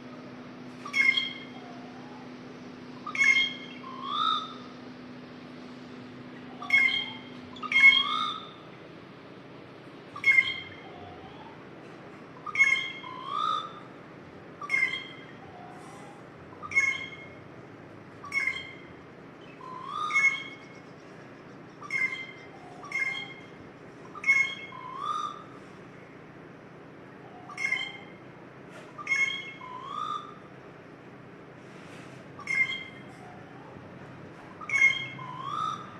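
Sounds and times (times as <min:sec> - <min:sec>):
bird calling: 0:00.0 - 0:30.8, 0:31.9 - 0:35.9.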